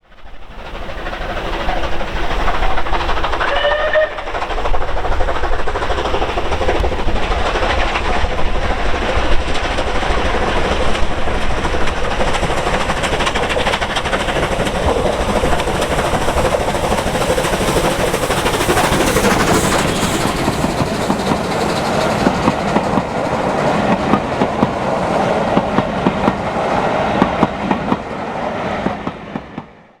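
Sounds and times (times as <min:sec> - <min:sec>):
train clattering on rails: 0:00.0 - 0:29.8
steam locomotive exhaust: 0:00.1 - 0:29.7.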